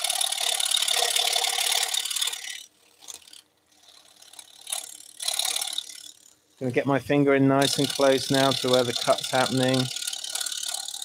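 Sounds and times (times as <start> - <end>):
scroll saw buzzing: 0.0 - 11.0.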